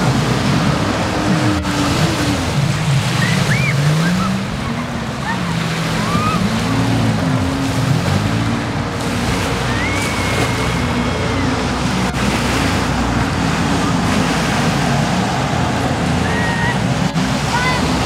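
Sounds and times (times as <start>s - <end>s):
churning water: 0.0s - 18.0s
jet ski engine running: 0.0s - 18.0s.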